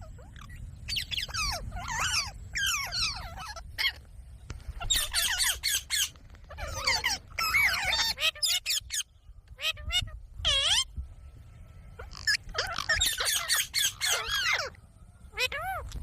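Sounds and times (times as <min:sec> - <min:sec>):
parrot squawking: 0:00.0 - 0:04.0, 0:04.8 - 0:10.9, 0:12.0 - 0:15.9
low steady rumble: 0:00.0 - 0:16.0.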